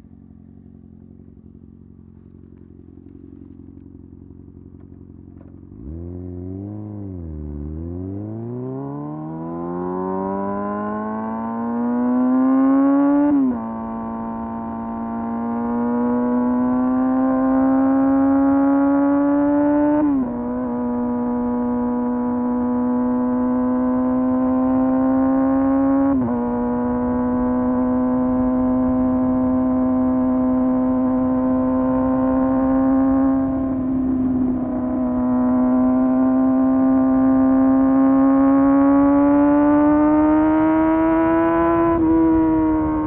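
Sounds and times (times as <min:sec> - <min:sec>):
motorcycle engine accelerating: 0:00.0 - 0:43.0.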